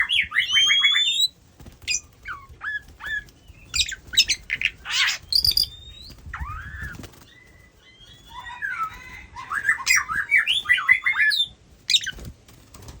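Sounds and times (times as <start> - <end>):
bird singing whistled notes: 0.0 - 1.3, 1.9 - 12.2.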